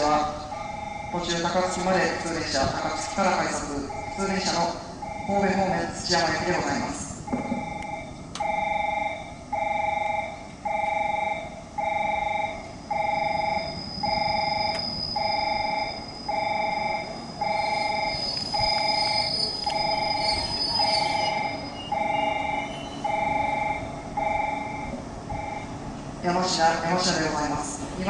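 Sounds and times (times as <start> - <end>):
two-tone electronic warning bell: 0.0 - 1.8, 3.4 - 5.6, 7.3 - 25.8
train braking whine: 0.0 - 26.0.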